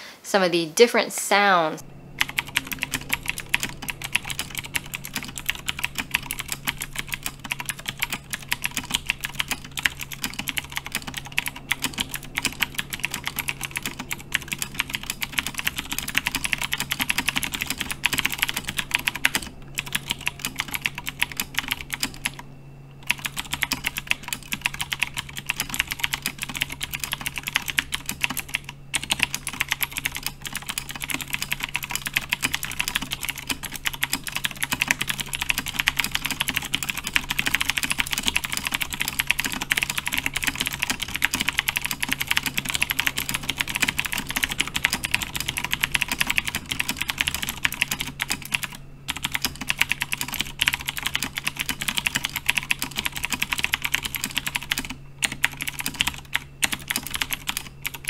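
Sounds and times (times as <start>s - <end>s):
mechanical keyboard typing: 2.2s - 22.4s, 23.0s - 58.0s.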